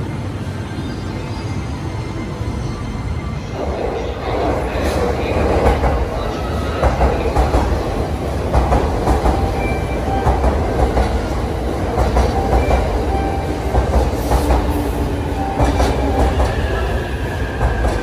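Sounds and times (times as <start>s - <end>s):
train low rumble: 1.9s - 18.0s.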